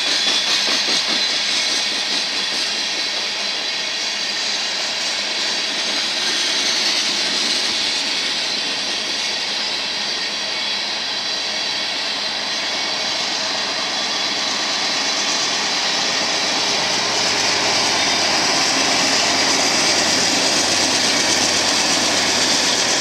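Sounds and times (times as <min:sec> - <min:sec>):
diesel locomotives passing: 0:00.0 - 0:23.0.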